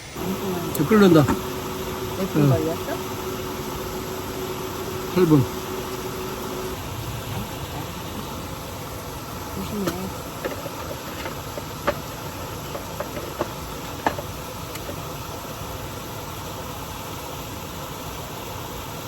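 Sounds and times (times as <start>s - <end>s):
rushing background noise: 0.0s - 15.9s.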